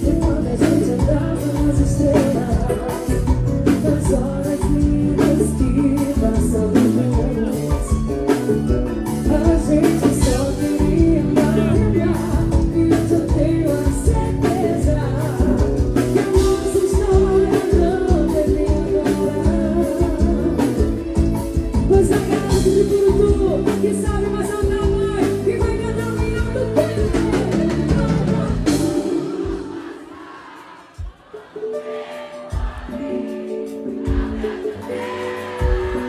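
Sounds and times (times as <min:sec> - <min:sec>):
woman singing: 0:00.0 - 0:30.2, 0:31.0 - 0:36.0
band with steady drum beat: 0:00.0 - 0:36.0.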